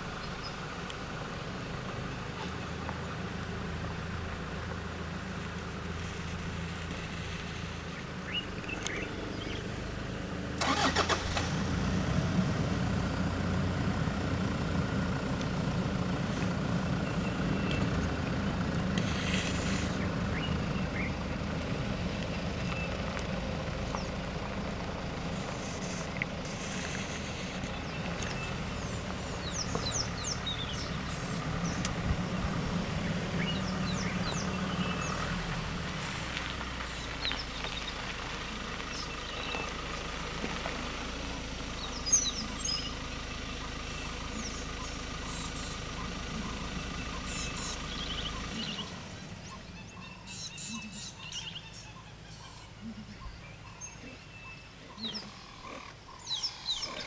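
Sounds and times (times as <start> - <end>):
small birds chirping: 0.0 - 10.2, 14.9 - 57.0
vehicle engine idling: 0.0 - 57.0.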